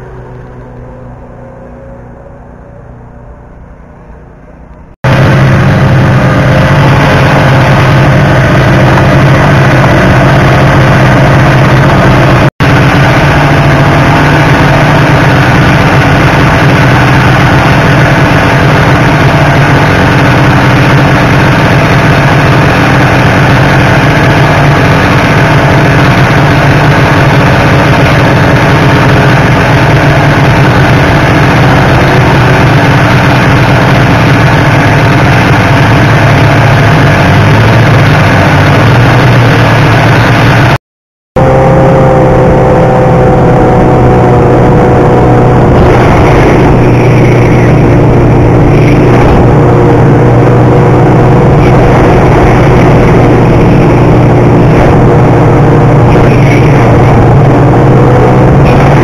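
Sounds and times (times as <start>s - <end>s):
snowmobile engine running: 0.0s - 40.8s, 41.4s - 59.0s.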